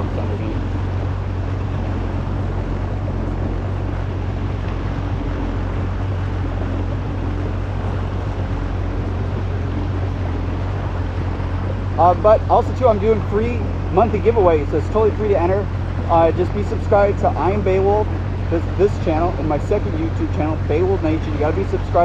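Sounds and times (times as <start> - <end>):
jet ski engine running: 0.0 - 22.0
water rushing along hull: 0.0 - 22.0
wind buffeting microphone: 0.0 - 22.0.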